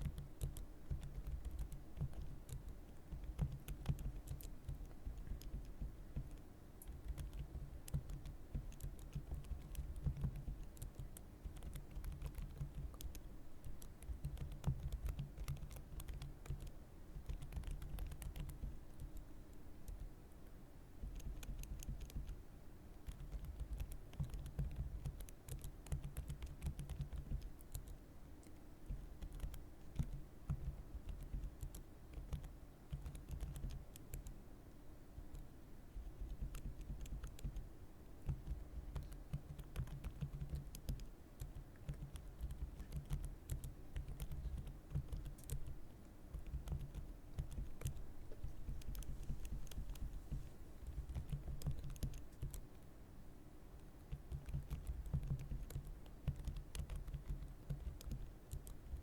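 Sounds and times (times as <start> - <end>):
computer keyboard typing: 0.0 - 20.1, 21.0 - 22.4, 23.0 - 34.4, 35.2 - 52.7, 53.8 - 59.0.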